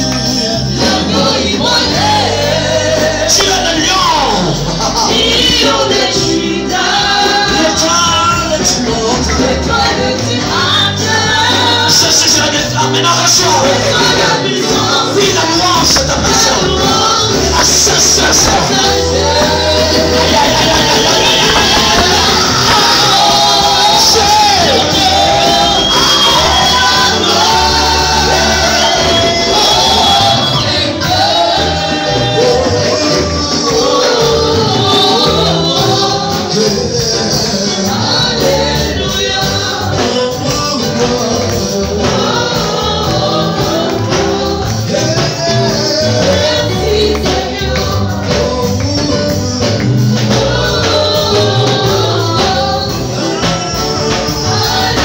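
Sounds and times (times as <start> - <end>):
congregation singing worship song: 0.0 - 55.0
live band drum beat: 0.0 - 55.0.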